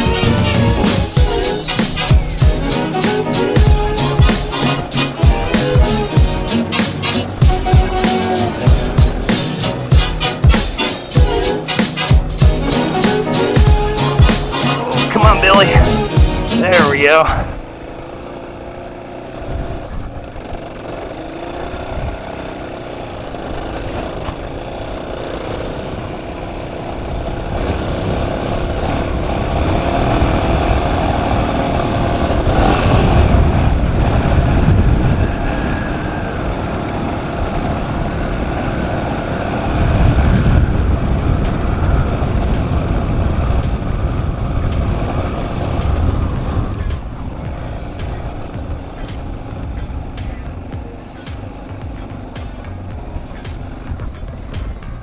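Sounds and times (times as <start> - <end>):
motorcycle engine running: 0.0 - 16.7, 17.3 - 55.0.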